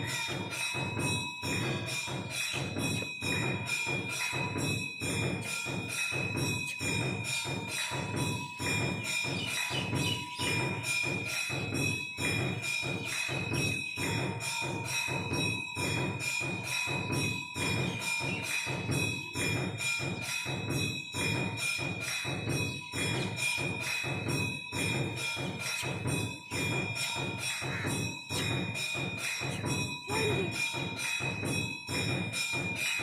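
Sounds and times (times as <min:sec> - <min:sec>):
temple bells ringing: 0:00.0 - 0:33.0.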